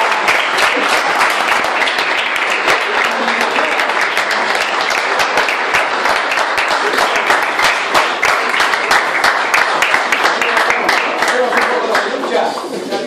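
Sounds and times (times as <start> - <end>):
small group clapping: 0.0 - 13.0.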